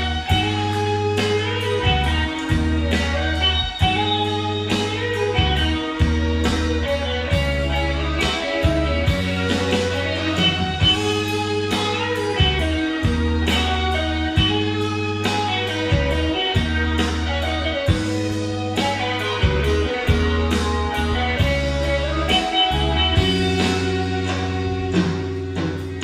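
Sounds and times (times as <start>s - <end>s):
guitar: 0.0s - 26.0s
held bass notes: 0.0s - 26.0s
light percussion beat: 0.0s - 26.0s.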